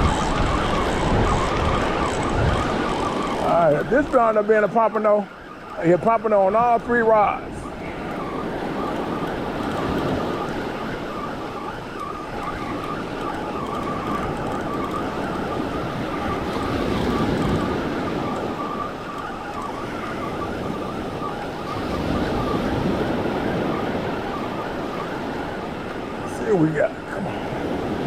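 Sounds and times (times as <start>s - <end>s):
wind on microphone: 0.0s - 4.8s, 5.4s - 28.0s.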